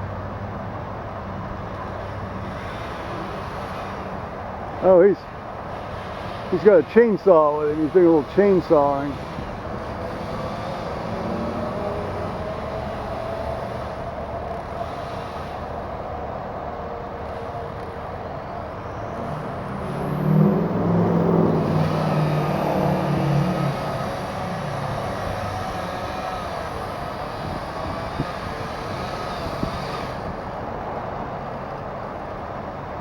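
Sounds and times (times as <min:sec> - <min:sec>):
engine drone: 0:00.0 - 0:33.0
motor vehicle passing: 0:02.0 - 0:31.8.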